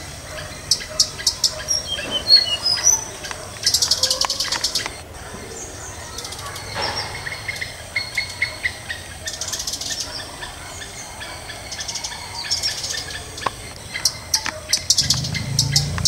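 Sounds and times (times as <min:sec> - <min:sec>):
nestlings chirping rapidly: 0:00.0 - 0:16.0.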